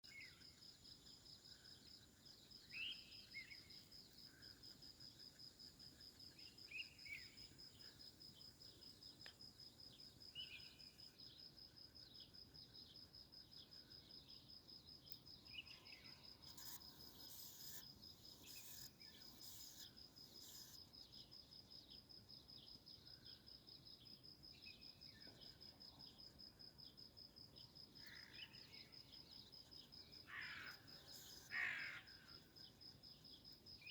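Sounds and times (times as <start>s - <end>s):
insects chirping: 0.0s - 33.9s.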